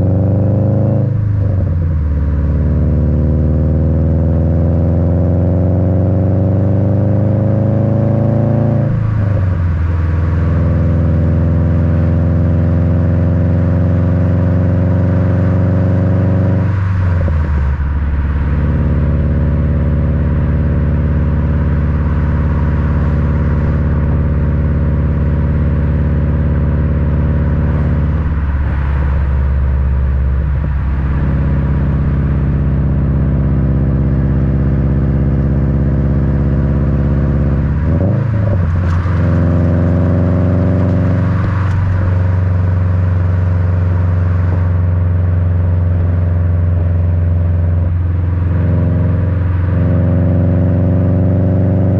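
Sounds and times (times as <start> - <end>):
car exhaust rumble: 0.0 - 51.9.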